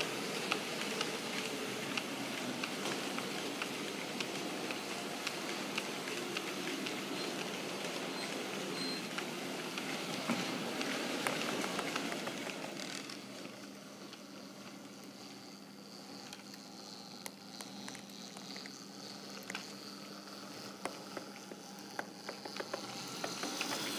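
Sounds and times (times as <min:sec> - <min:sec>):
model train wheels clattering: 0:00.0 - 0:19.9, 0:20.5 - 0:23.9.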